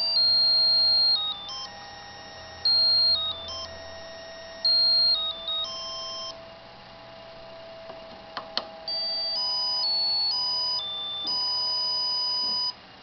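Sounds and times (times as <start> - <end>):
electronic beep ringtone melody: 0.0 - 6.5, 7.6 - 12.8.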